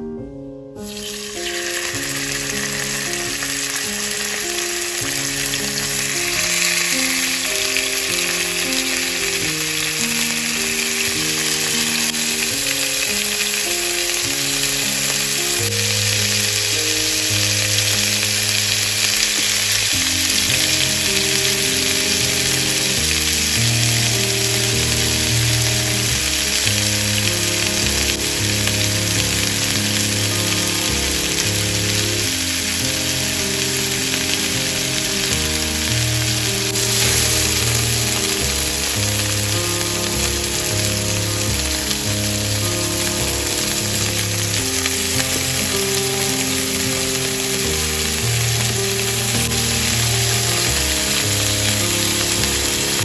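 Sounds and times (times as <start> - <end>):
soft background music: 0.0 - 53.0
chicken sizzling in hot oil: 0.8 - 53.0.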